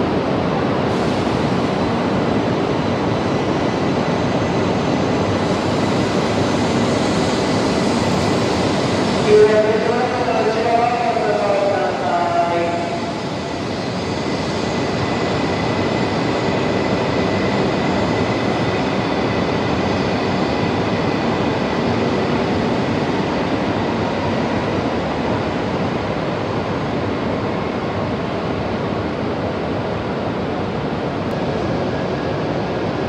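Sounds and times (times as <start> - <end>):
train rushing noise: 0.0 - 33.0.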